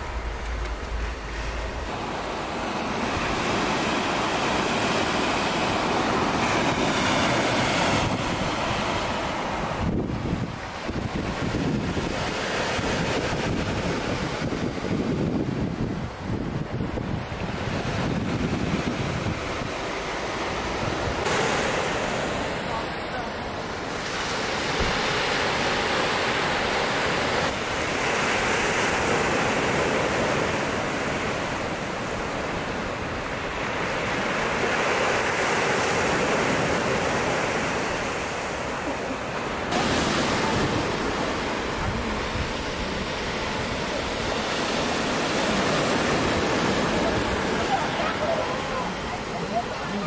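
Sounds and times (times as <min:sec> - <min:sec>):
sea waves washing ashore: 0:00.0 - 0:50.0.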